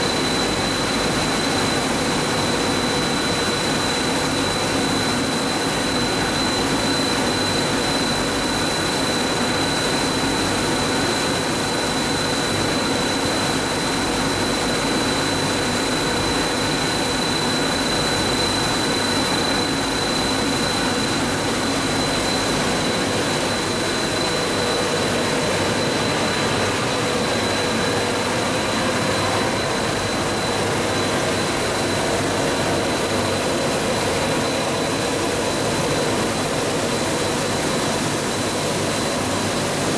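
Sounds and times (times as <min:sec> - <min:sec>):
constant high whine: 0:00.0 - 0:39.9.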